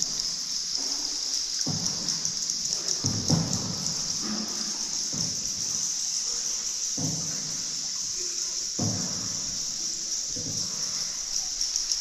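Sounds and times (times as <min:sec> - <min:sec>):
boat paddle splashing in water: 0:00.0 - 0:11.6
steady high hiss: 0:00.0 - 0:12.0.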